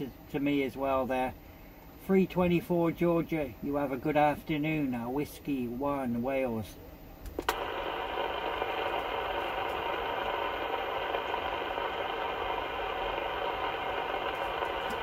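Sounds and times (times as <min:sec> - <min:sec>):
radio static hiss: 0:02.1 - 0:15.0.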